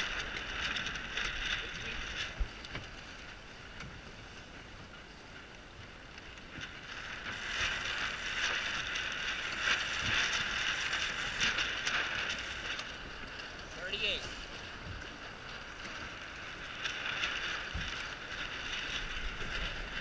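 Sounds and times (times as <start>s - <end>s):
wind and water rushing: 0.0s - 20.0s.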